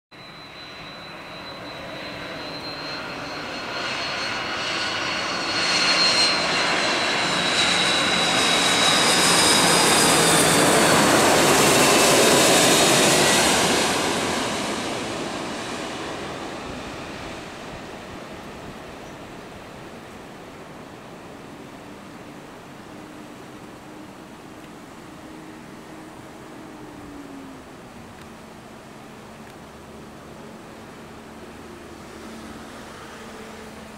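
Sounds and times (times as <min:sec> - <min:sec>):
high jet engine whine: 0:00.1 - 0:33.9
jet airliner engine roar: 0:00.1 - 0:33.9.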